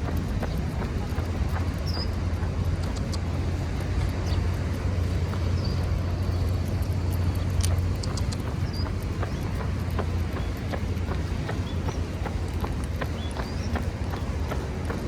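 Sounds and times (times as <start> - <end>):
running footfalls: 0.0 - 15.0
vehicle engine humming: 0.0 - 15.0.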